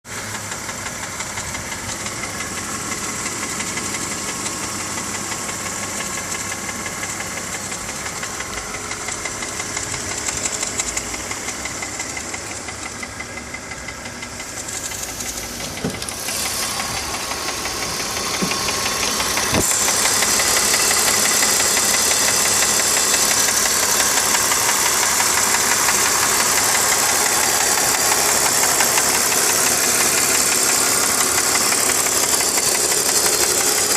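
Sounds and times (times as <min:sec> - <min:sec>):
car engine idling: 0:00.1 - 0:33.9
fast engine ticking: 0:00.1 - 0:33.9.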